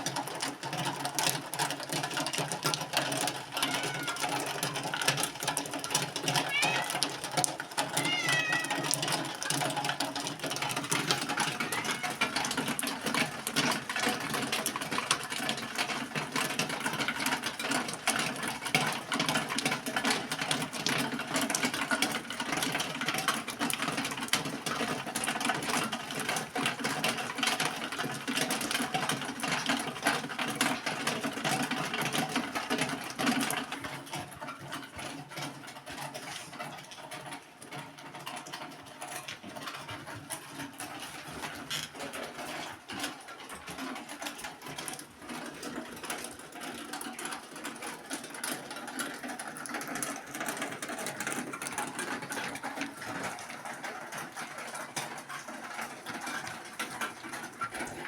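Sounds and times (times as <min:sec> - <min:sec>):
small machine clattering: 0:00.0 - 0:58.0.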